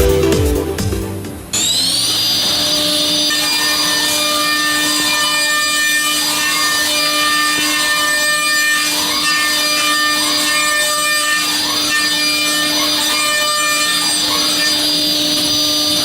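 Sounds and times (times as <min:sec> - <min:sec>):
milling machine cutting metal: 0:01.4 - 0:16.0.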